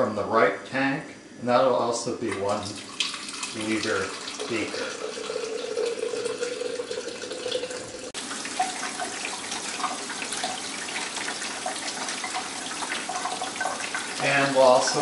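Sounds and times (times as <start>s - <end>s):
liquid filling plastic beaker: 2.2s - 15.0s.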